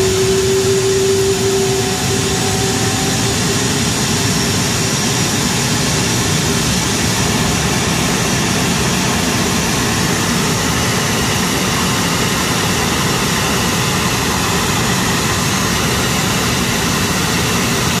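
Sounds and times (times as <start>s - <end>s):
jet engine idling: 0.0s - 18.0s.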